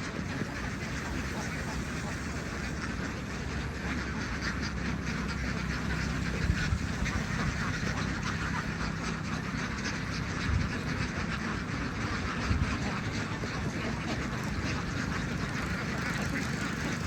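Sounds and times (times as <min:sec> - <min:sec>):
flock of ducks quacking: 0:00.0 - 0:17.0
low steady hum: 0:00.0 - 0:17.0.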